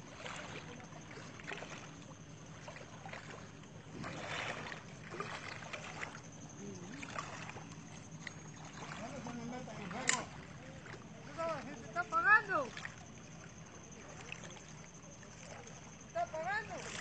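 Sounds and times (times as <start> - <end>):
waves lapping against shore: 0.0 - 17.0.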